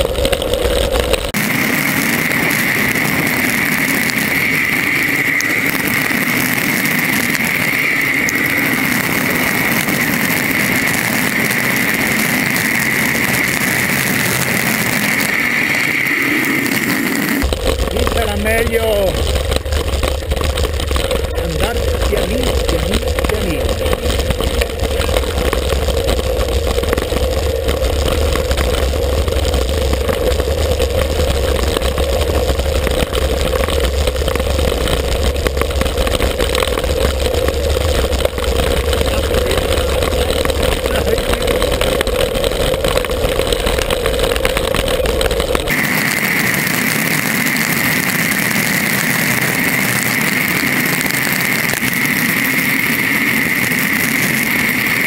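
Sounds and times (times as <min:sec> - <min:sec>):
bicycle tyre rumble: 0:00.0 - 0:55.0
wind rushing on camera: 0:00.0 - 0:55.0.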